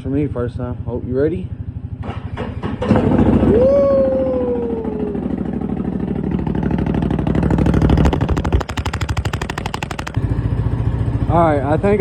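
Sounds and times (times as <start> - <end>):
off-road engine idling: 0.0 - 12.0.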